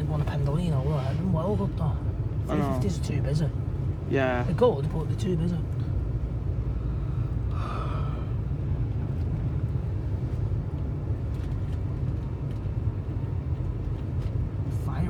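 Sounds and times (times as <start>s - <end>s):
train rumble from inside carriage: 0.0s - 15.0s.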